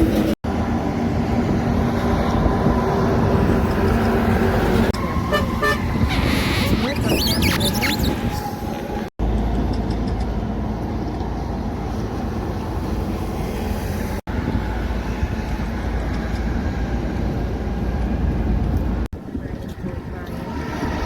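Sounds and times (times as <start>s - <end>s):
heavy truck traffic rumble: 0.0s - 21.0s.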